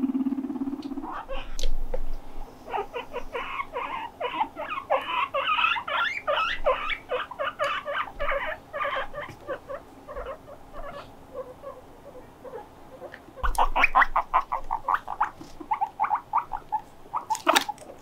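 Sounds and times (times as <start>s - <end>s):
guinea pigs squeaking: 0.0s - 18.0s.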